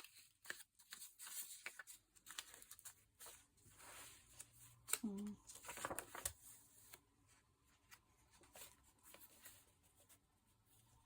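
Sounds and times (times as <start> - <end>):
paper rustling: 0.0 - 10.9.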